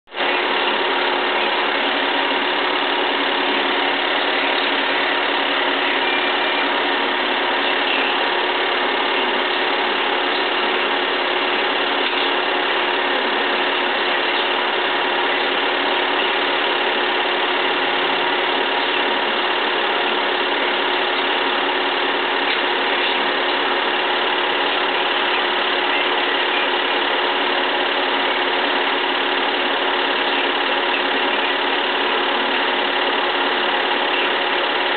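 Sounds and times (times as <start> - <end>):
film projector whirring: 0.1 - 34.9.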